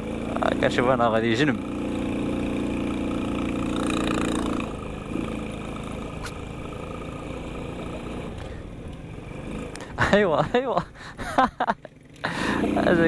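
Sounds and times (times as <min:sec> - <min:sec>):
motorcycle engine running: 0:00.0 - 0:13.0
road and wind rumble: 0:00.0 - 0:13.0.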